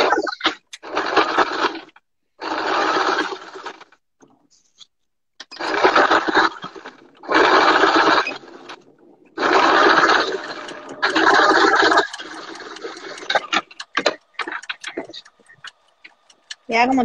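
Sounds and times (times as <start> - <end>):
sewing machine stitching: 0.1 - 4.0, 5.4 - 17.0.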